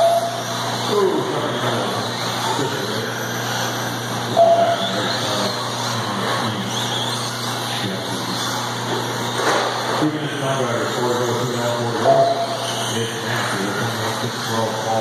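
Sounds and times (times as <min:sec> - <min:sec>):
steady low hum: 0:00.0 - 0:15.0
toy car motors whining: 0:00.0 - 0:15.0.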